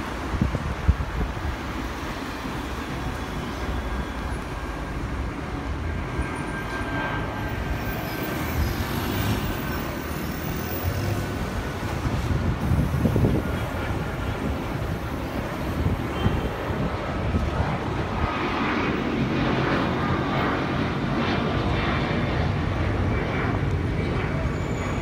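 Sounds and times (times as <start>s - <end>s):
wind on microphone: 0.0s - 2.1s, 5.2s - 25.0s
jet engines passing overhead: 0.0s - 25.0s.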